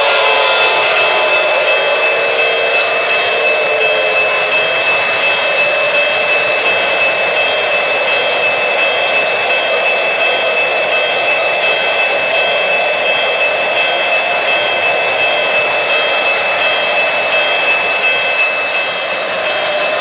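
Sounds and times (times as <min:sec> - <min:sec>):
model train running on track: 0:00.0 - 0:20.0
model train turbine whine: 0:00.0 - 0:20.0.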